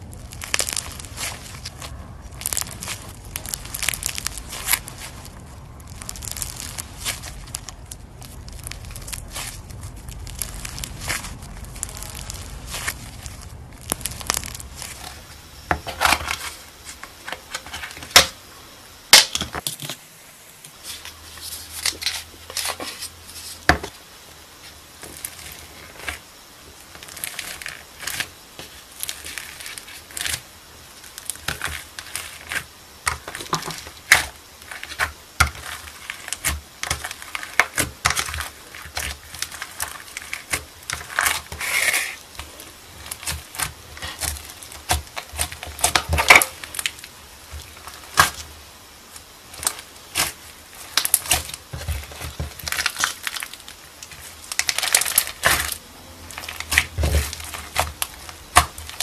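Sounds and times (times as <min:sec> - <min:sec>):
slime crackling and crunching: 0:00.0 - 0:19.7, 0:20.7 - 0:59.0.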